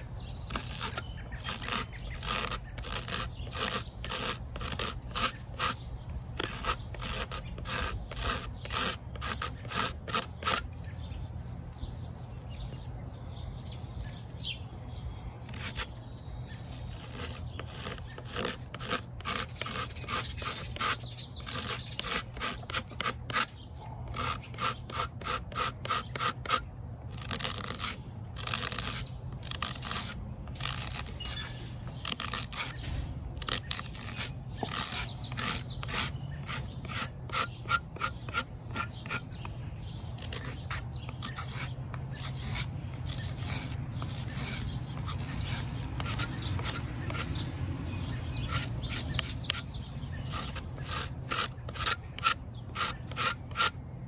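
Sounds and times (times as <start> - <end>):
knife scraping wood: 0.4 - 5.8, 6.4 - 10.9, 15.4 - 39.6, 40.2 - 47.5, 48.3 - 53.8.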